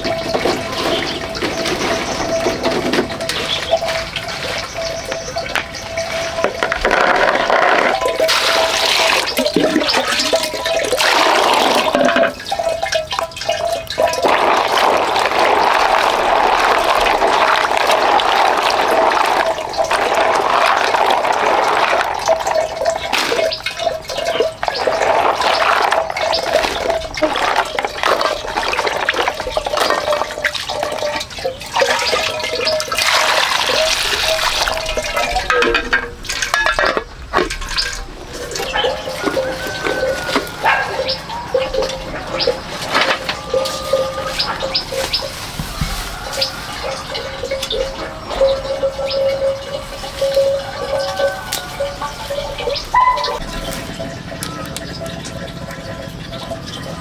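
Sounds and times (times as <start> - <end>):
water running and splashing: 0.0 - 57.0.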